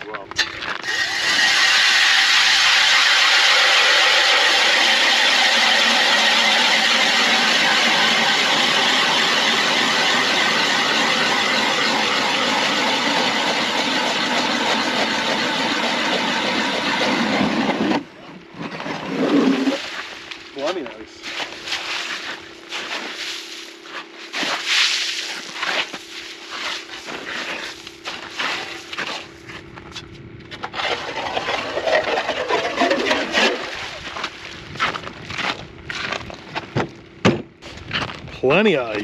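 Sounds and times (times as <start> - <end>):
power ice auger boring: 0.3 - 29.7, 30.5 - 36.4.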